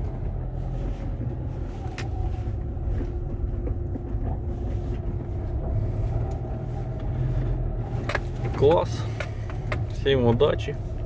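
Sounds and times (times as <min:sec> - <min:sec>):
engine and road rumble in van: 0:00.0 - 0:11.0.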